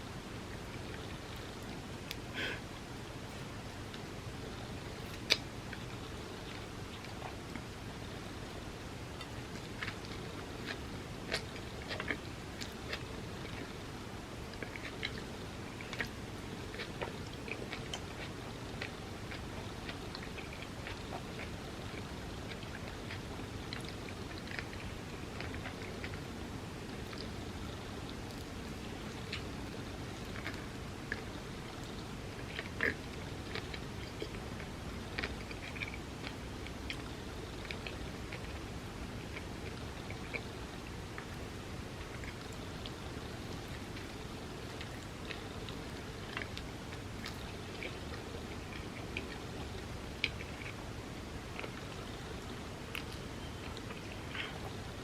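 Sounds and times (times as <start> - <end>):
mouth clicks and food crunches: 0.5 - 55.0
person chewing food: 3.3 - 55.0.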